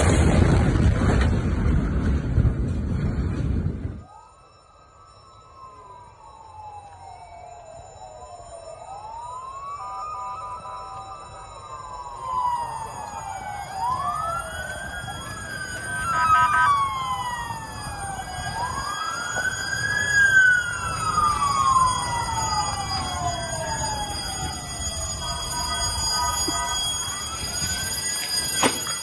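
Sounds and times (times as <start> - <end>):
emergency sirens wailing: 3.3 - 29.0.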